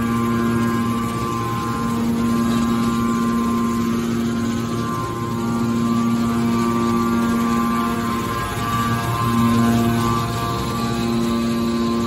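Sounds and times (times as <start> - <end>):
hydraulic pump motor humming: 0.0 - 12.0.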